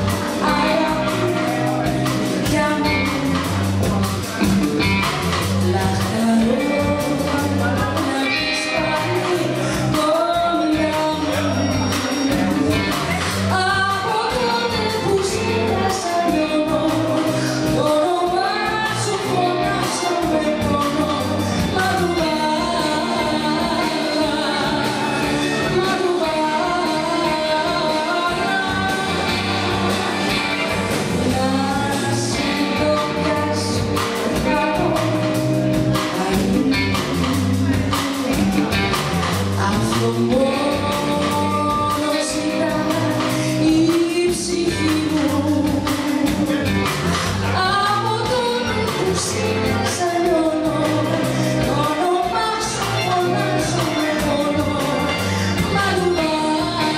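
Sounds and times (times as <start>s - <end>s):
woman singing: 0.0s - 4.5s, 5.4s - 56.9s
drums: 0.0s - 56.9s
electric bass: 0.0s - 56.9s
electric guitar: 0.0s - 56.9s
keyboards: 0.0s - 56.9s.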